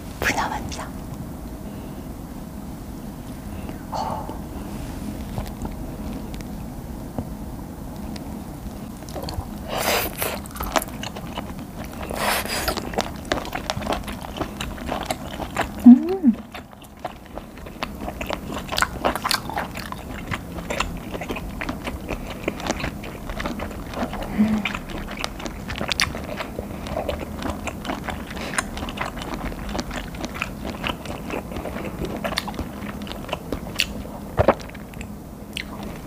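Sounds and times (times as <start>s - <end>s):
person chewing with mouth clicks: 3.5s - 6.6s, 8.0s - 36.0s.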